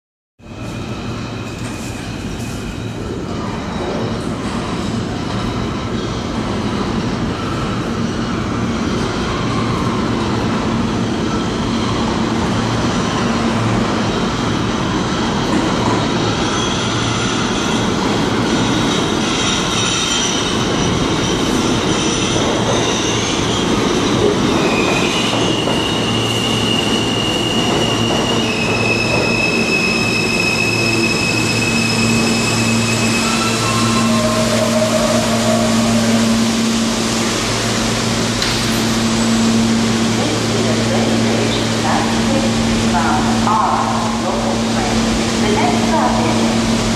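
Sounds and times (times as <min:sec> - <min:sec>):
subway train wheels rumbling: 0:00.4 - 0:46.9.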